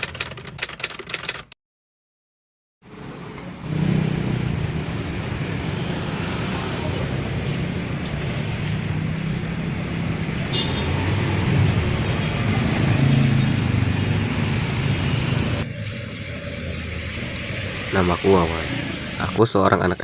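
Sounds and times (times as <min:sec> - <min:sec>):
road traffic hum: 0:02.8 - 0:20.0
vehicle passing: 0:02.9 - 0:19.5.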